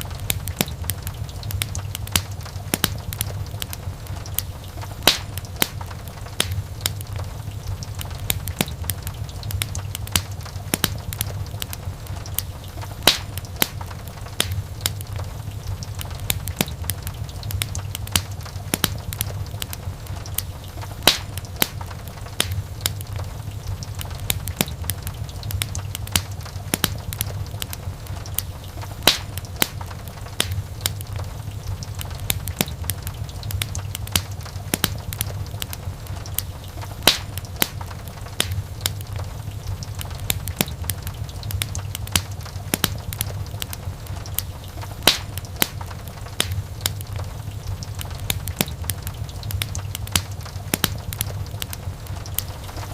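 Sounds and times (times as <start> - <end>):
fire popping: 0.0 - 52.9
low rumble of flames: 0.0 - 52.9
wood fire crackling: 0.0 - 52.9.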